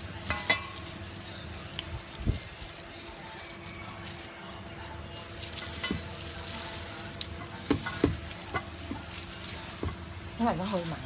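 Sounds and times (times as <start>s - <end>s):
gloves and tofu rustling: 0.0s - 11.0s.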